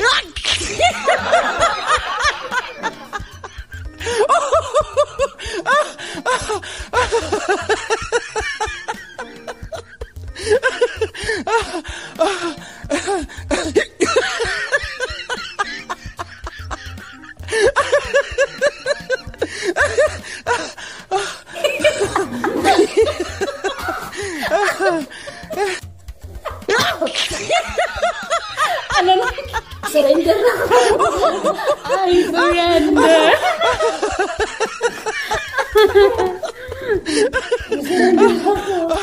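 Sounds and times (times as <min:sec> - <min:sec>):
background music: 0:00.0 - 0:39.0
people laughing: 0:00.0 - 0:39.0.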